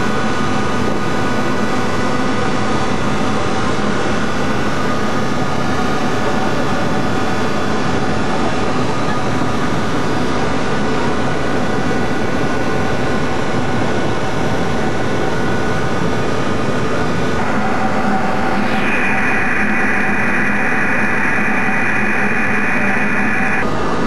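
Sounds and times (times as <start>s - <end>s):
ship engines droning: 0.0s - 24.0s.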